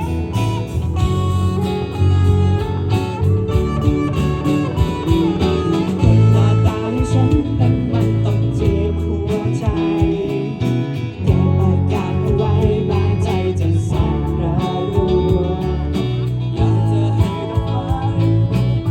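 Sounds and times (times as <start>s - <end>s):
band playing pop song: 0.0s - 18.9s.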